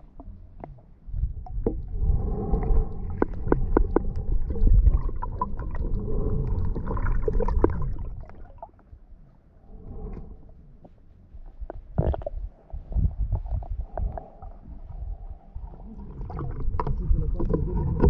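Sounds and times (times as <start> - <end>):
muffled underwater rumble: 0.0 - 18.0.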